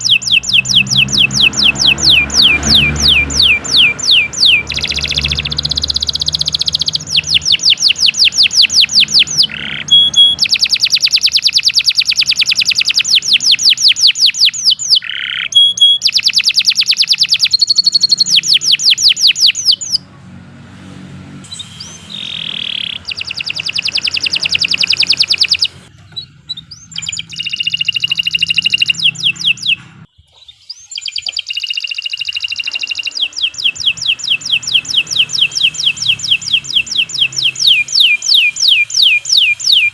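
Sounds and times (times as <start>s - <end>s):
canary singing trills: 0.0s - 20.1s, 21.5s - 39.9s.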